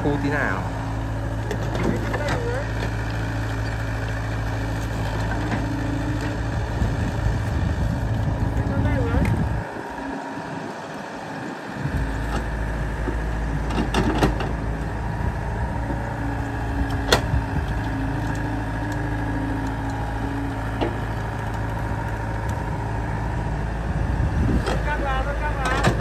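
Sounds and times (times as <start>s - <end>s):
excavator engine and hydraulics: 0.0s - 26.0s.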